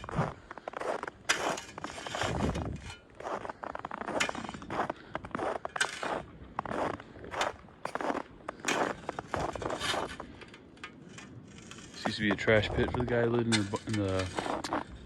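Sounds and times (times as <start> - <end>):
footsteps crunching through icy snow: 0.0 - 15.0.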